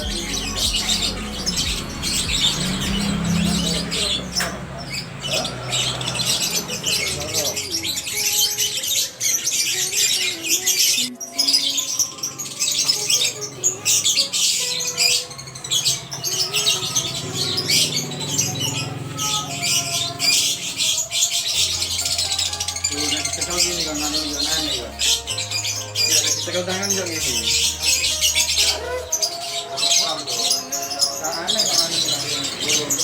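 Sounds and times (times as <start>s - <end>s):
birds chirping and squawking: 0.0s - 33.0s.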